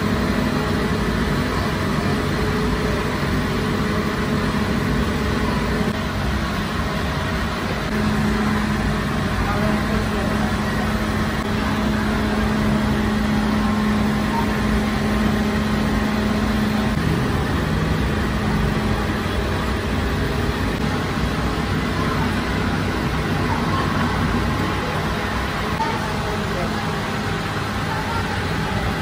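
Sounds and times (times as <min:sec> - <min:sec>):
bakery machinery drone: 0:00.0 - 0:29.0
low hum: 0:00.0 - 0:29.0.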